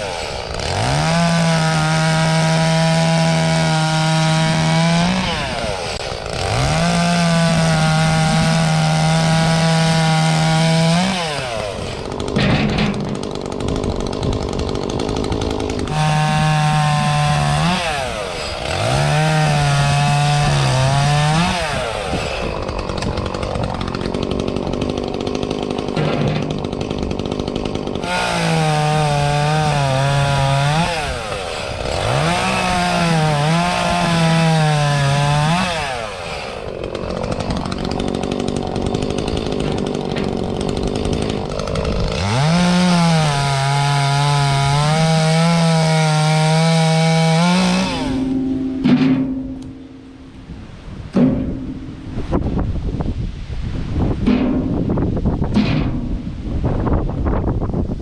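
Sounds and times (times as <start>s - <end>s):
chainsaw revving and idling: 0.0s - 50.5s, 51.2s - 52.4s.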